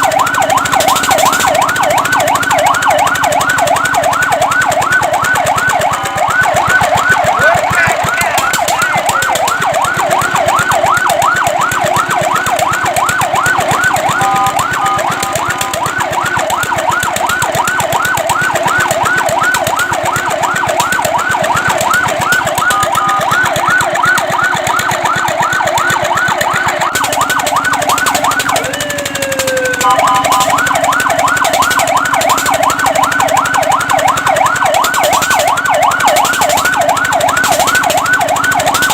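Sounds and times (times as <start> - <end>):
fire truck siren yelping: 0.0 - 38.9.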